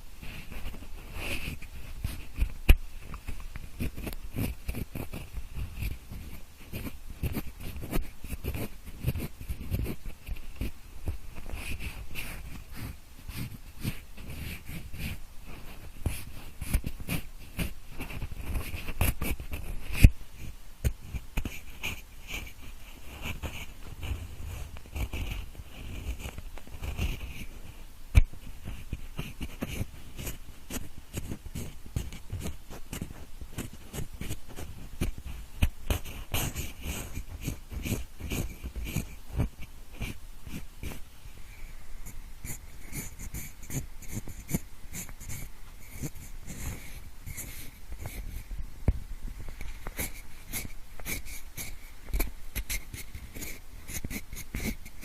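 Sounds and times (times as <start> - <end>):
pencil scratching: 0.2 - 41.0, 42.0 - 48.5, 49.7 - 55.0.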